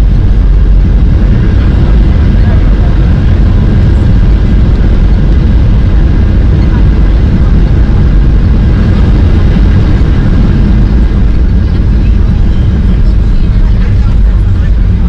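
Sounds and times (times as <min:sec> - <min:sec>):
jet engine rumble in cabin: 0:00.0 - 0:15.0.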